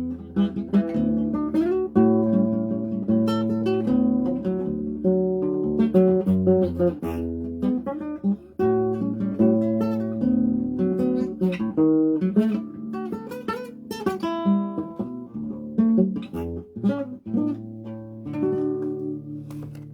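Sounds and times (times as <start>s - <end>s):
acoustic guitar playing: 0.0s - 19.9s.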